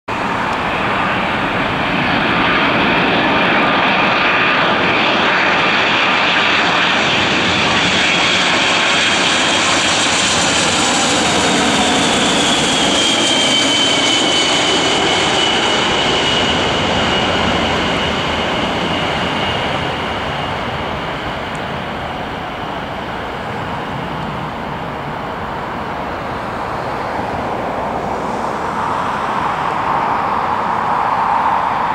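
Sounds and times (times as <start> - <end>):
jet passing low overhead: 0.1 - 31.9.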